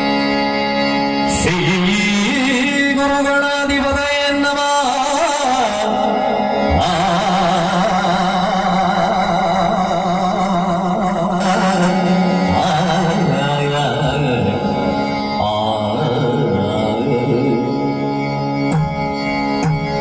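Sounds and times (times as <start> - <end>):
instrumental accompaniment: 0.0 - 20.0
person singing long wavering notes: 1.0 - 19.3.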